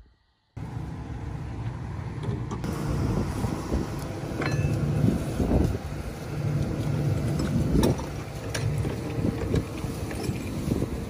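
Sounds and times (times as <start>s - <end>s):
combine harvester running: 0.6s - 11.0s
wind buffeting microphone: 2.0s - 11.0s.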